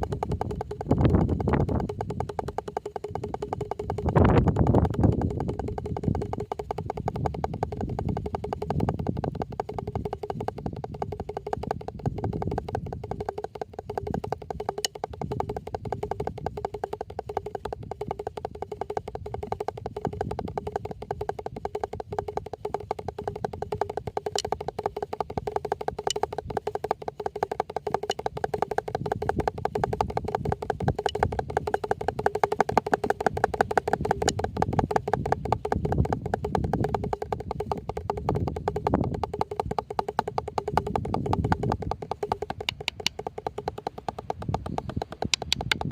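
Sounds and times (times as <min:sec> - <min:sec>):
drum rapid strokes: 0:00.0 - 0:45.9.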